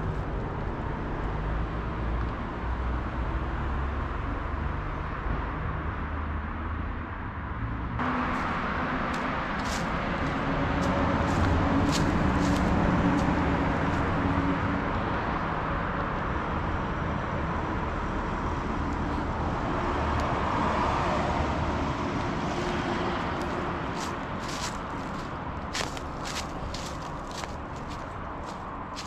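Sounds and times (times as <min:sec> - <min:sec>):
engine hum: 0:00.0 - 0:29.0
rumble of passing cars: 0:00.0 - 0:29.0.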